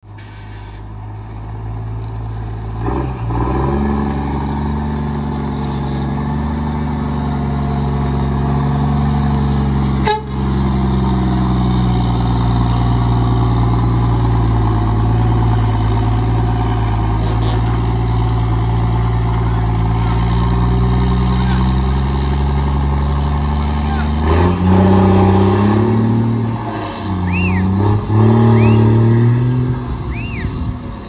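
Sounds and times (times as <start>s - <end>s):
diesel truck engine droning: 0.0s - 31.0s.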